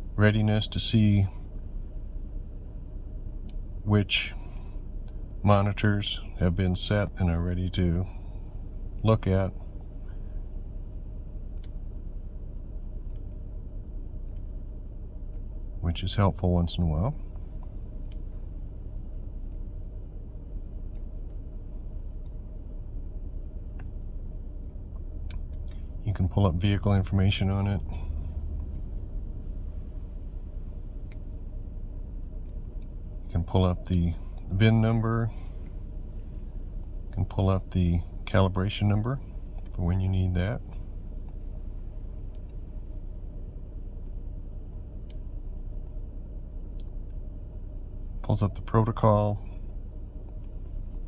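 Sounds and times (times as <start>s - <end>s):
steady low rumble: 0.0s - 51.0s.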